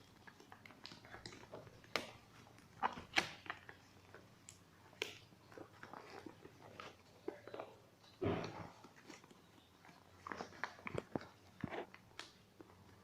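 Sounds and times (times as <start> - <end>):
packaging clicks and rustles: 0.0 - 13.0.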